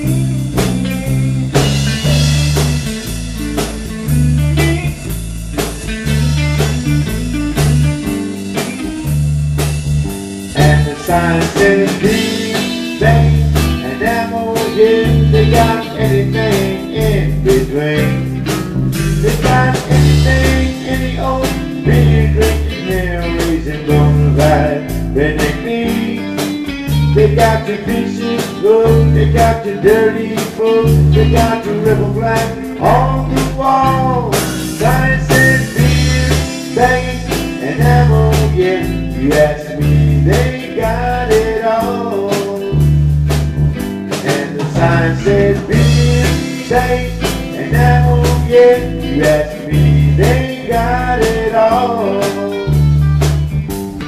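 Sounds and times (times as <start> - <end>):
bass guitar pattern: 0.0 - 54.0
bending lead guitar lines: 0.0 - 54.0
drum kit: 0.0 - 54.0.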